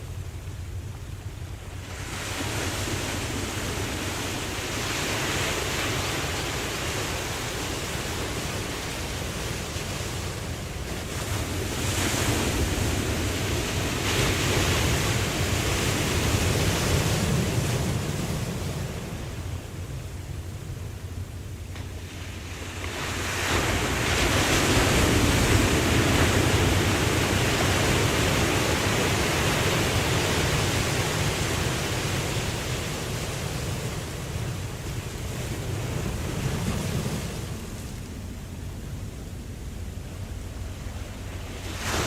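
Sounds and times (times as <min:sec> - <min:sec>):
ocean waves breaking on beach: 0:00.0 - 0:42.0.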